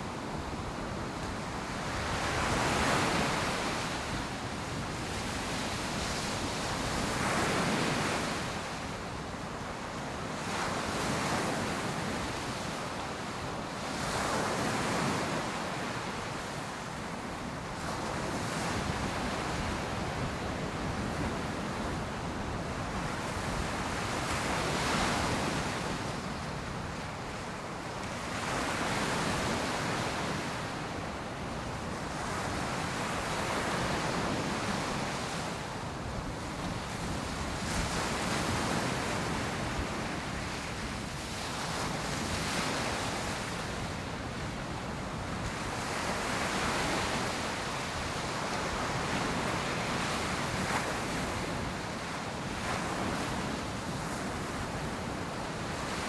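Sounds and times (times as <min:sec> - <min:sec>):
ocean waves breaking on sand: 0:00.0 - 0:56.0.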